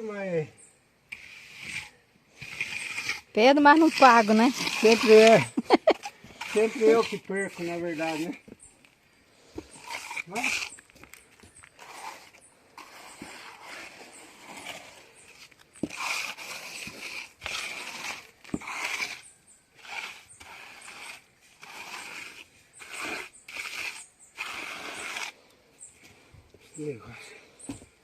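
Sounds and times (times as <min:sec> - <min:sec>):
trowel scraping mortar: 0:01.1 - 0:08.6, 0:09.5 - 0:25.4.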